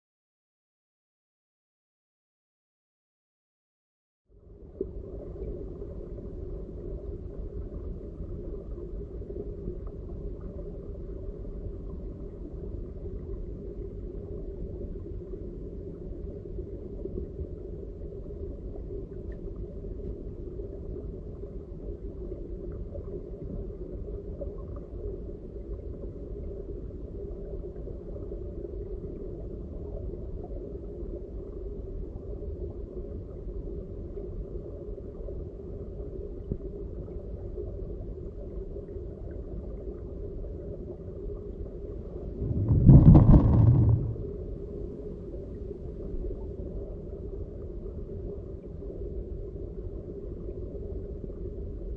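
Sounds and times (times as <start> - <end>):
muffled underwater stream rumble: 4.3 - 51.9.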